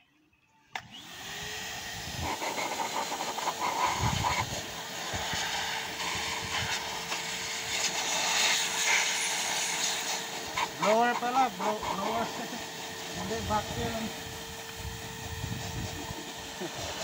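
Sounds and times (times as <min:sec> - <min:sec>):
vacuum cleaner motor blowing air: 0:00.8 - 0:17.0.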